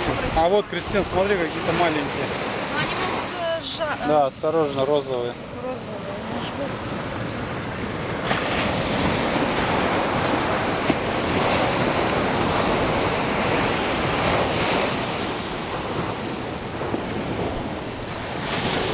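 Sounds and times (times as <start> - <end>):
wind buffeting microphone: 0.0 - 4.0, 6.5 - 18.9
small waves breaking on sand: 0.0 - 18.9.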